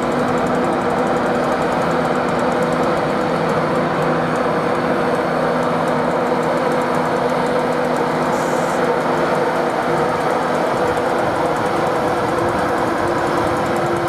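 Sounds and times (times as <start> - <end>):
train engine idling: 0.0 - 14.0.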